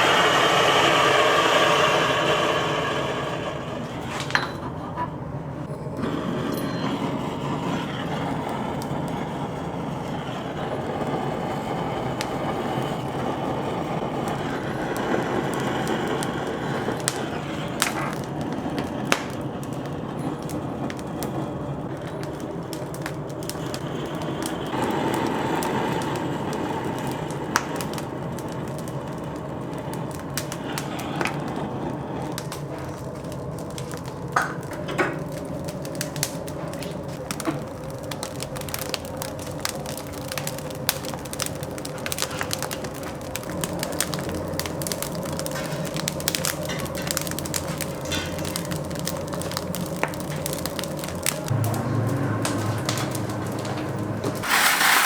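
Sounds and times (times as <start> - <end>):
wood fire crackling and hissing: 0.0 - 55.0.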